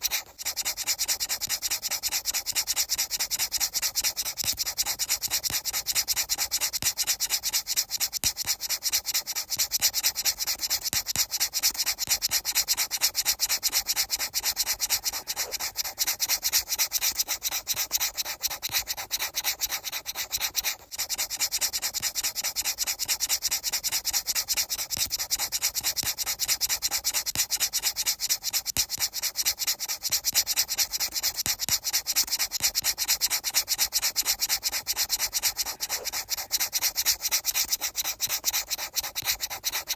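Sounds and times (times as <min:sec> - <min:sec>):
fast rubbing strokes: 0:00.0 - 0:39.9.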